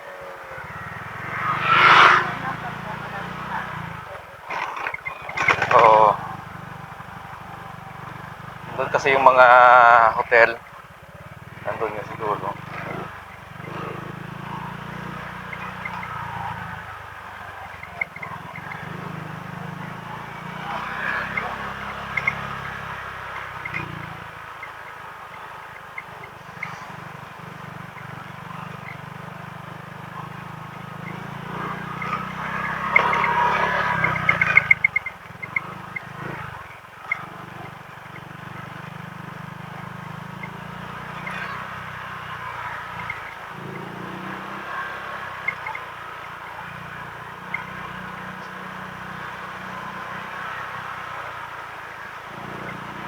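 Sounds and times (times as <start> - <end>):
road and wind noise: 0.0 - 53.0
scooter engine running: 0.0 - 53.0.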